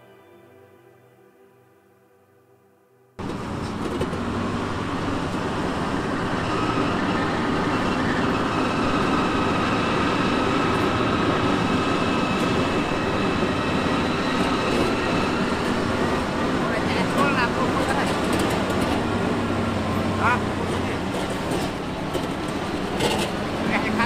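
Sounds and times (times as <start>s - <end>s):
diesel machinery engine rumble: 3.2s - 24.0s.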